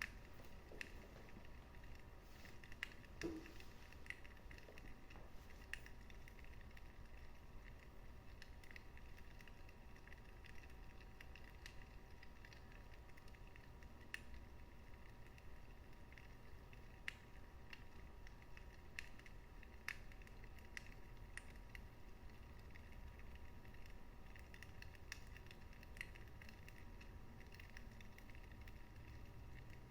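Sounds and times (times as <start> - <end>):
wood fire crackling faintly: 0.0 - 29.9.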